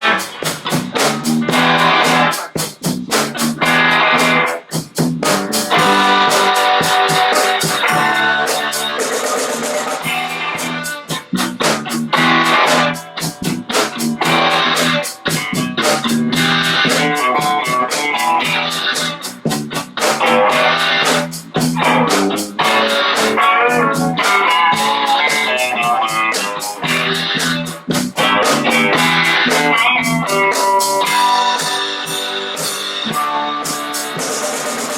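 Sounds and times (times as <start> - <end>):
guitar notes: 0.0 - 34.9
live rock band playing: 0.0 - 34.9
quick high-pitched drum hits: 0.0 - 34.9.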